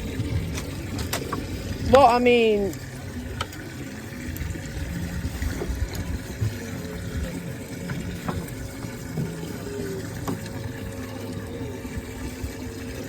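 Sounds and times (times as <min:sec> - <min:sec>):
low steady rumble: 0:00.0 - 0:13.0
water running and sloshing: 0:00.0 - 0:13.0.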